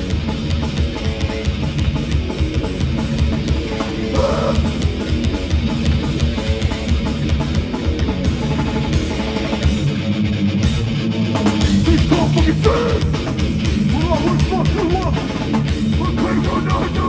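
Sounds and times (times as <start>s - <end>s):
bass guitar: 0.0s - 17.0s
distorted electric guitars: 0.0s - 17.0s
driving drum kit: 0.0s - 17.0s.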